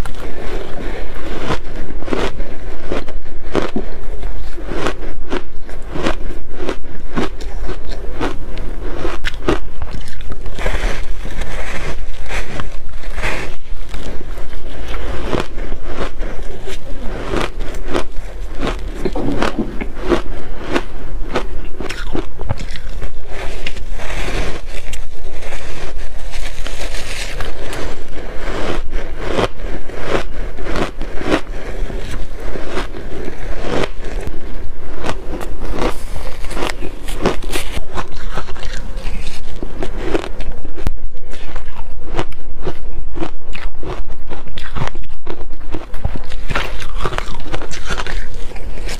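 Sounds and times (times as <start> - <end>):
crunching shaved ice: 0.0 - 48.9.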